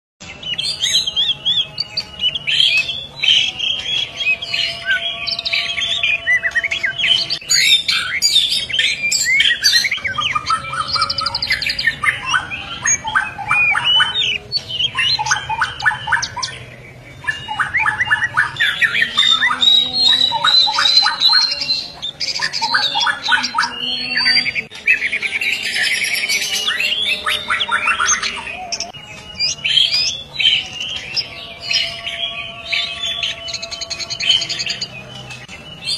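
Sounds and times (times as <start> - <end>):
bird singing whistles and trills: 0.2 - 35.9.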